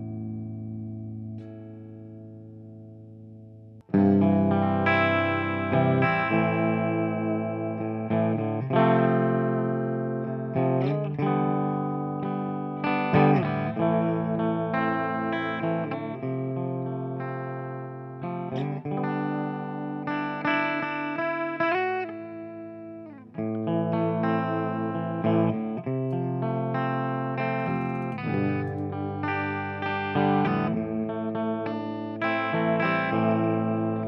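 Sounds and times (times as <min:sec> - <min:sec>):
electric guitar chords ringing: 0:00.0 - 0:34.0.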